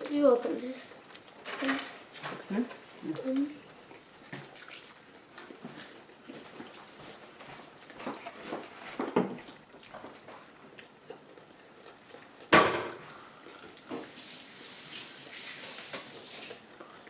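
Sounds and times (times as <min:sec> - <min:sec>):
people chewing: 0:00.4 - 0:14.2, 0:15.7 - 0:17.0.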